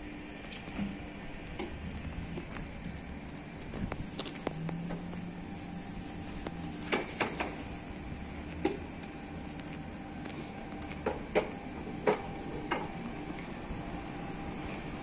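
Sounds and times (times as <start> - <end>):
tram running with low hum: 0.0 - 15.0.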